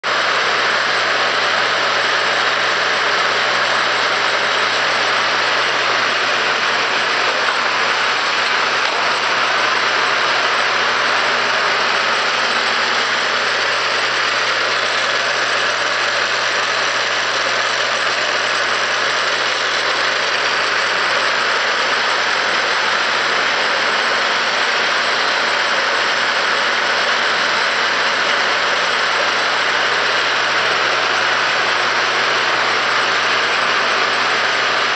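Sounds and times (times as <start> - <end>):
chain-lift motors whirring: 0.1 - 34.9.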